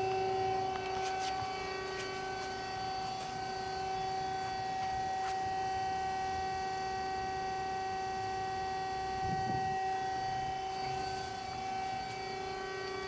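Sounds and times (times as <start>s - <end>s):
circular saw machine whining: 0.0s - 13.0s.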